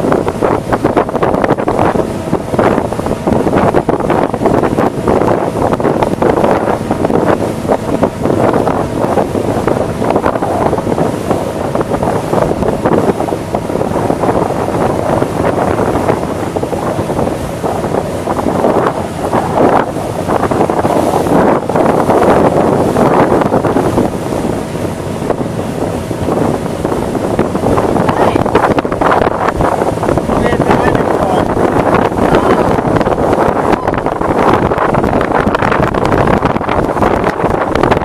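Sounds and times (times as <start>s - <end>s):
motorboat running noise: 0.0s - 38.0s
wind buffeting microphone: 0.0s - 38.0s.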